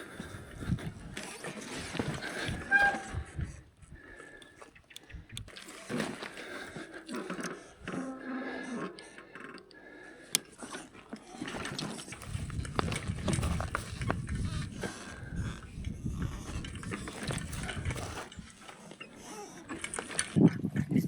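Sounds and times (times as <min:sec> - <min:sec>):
footsteps on stony trail: 0:00.0 - 0:08.0, 0:10.4 - 0:20.4
hard breathing: 0:00.0 - 0:20.4.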